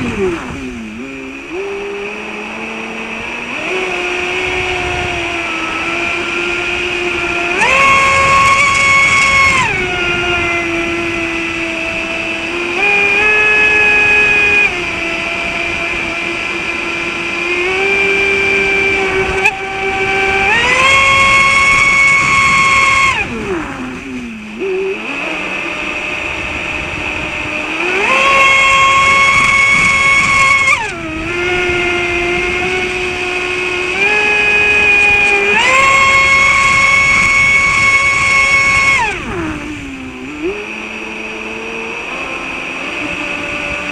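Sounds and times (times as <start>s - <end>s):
electric motor whining: 0.0s - 43.9s.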